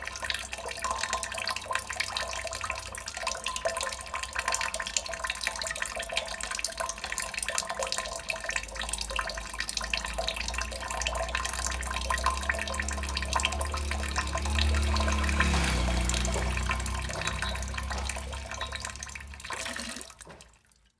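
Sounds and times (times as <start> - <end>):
water drops falling into water: 0.0 - 20.7.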